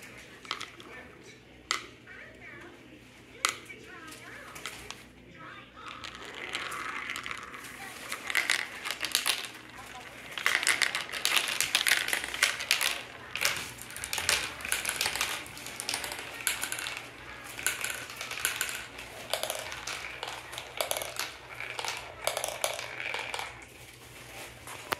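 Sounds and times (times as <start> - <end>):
plastic balls clattering in marble run: 0.0 - 1.1, 3.4 - 5.0, 5.8 - 24.9.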